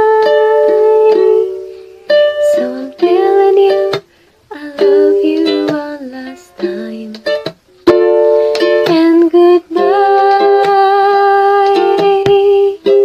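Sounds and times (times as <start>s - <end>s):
ukulele strumming chords: 0.0s - 13.0s.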